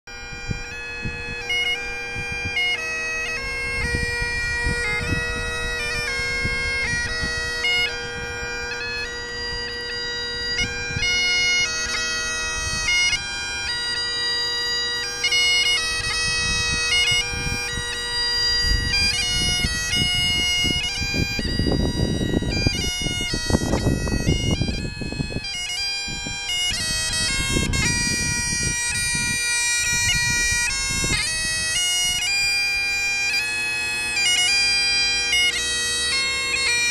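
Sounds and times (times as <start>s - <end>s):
bagpipe chanter melody: 0.1s - 36.9s
bagpipe drone: 0.1s - 36.9s.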